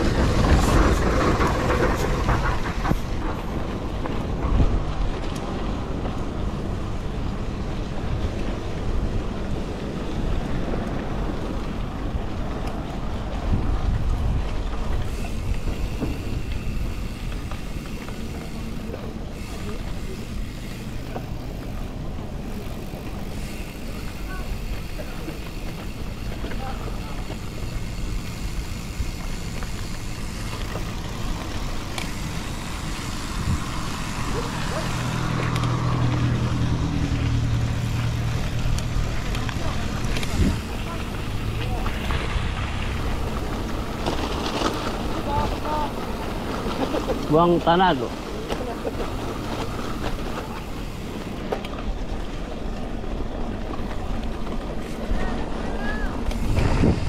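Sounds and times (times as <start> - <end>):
wind noise: 0.0 - 47.3, 48.2 - 57.0
road noise: 0.0 - 57.0
vehicle engine and tyre noise: 0.0 - 57.0.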